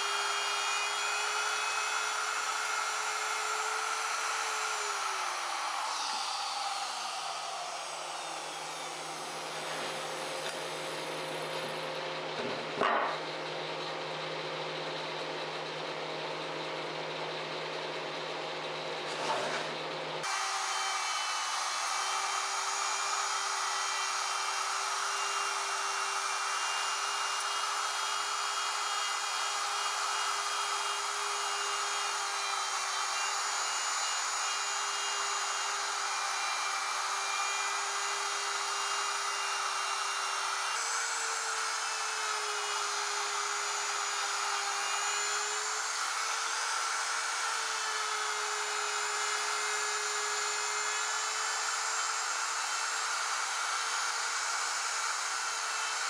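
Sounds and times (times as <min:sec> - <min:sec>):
router cutting wood: 0:00.0 - 0:56.0.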